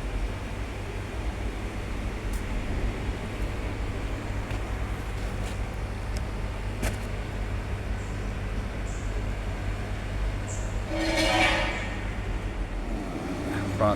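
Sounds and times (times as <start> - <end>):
low mechanical hum: 0.0 - 13.9.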